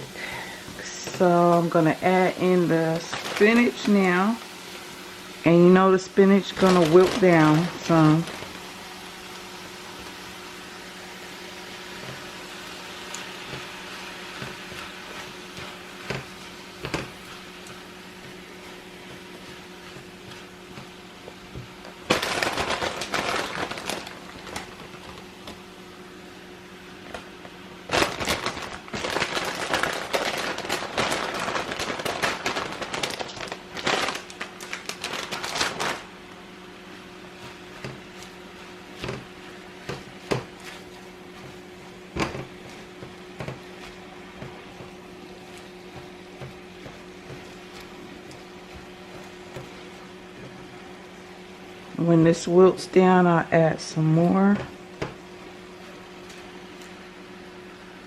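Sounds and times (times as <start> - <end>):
spinach crackling in hot oil: 0.0 - 58.0.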